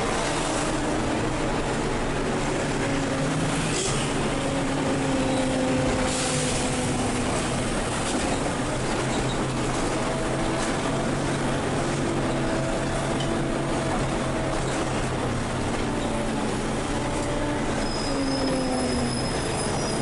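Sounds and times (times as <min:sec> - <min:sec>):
bus diesel engine: 0:00.0 - 0:20.0
road noise: 0:00.0 - 0:20.0.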